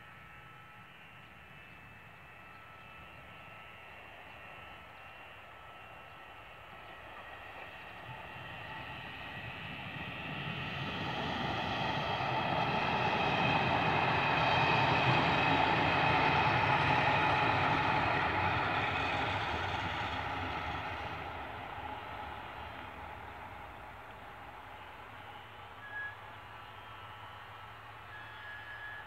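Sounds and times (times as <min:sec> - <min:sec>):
diesel railcar passing by: 0:00.0 - 0:29.0.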